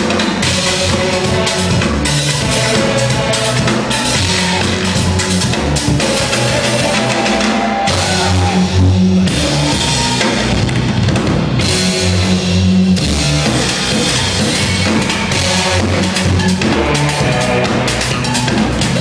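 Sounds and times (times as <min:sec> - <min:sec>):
loud drumming: 0:00.0 - 0:19.0.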